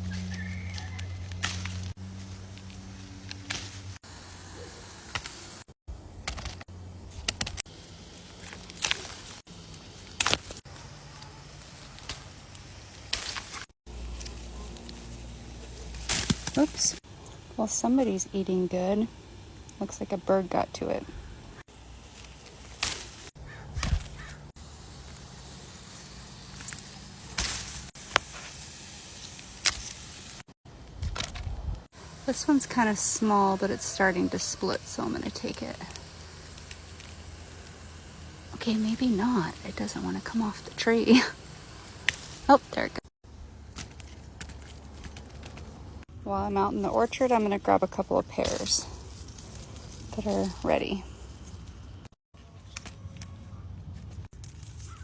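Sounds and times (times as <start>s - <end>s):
rustling of branches: 0.0s - 55.0s.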